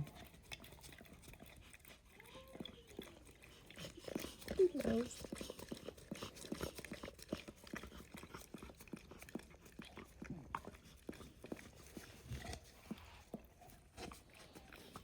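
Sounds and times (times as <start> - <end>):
dog licking wet smacks: 0.0 - 15.0.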